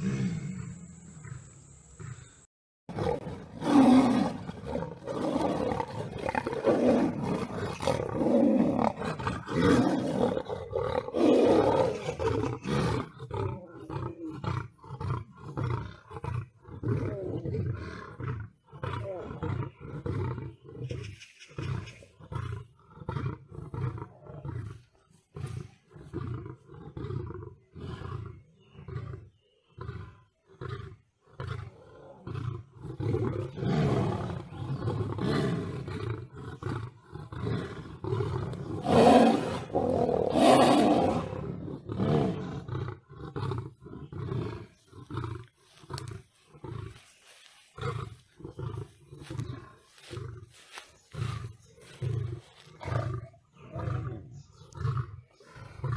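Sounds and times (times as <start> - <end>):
lions roaring and grunting: 0.0 - 55.9.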